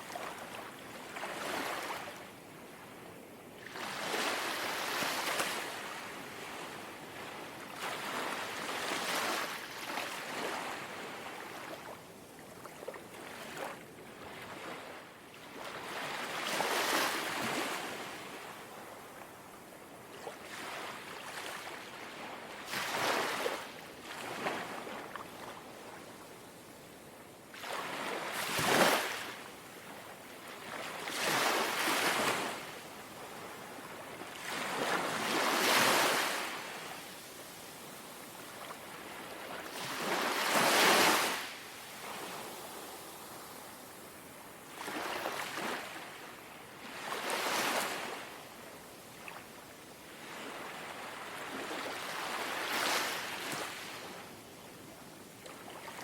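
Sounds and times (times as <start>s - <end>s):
gentle waves lapping on shore: 0.0s - 56.0s.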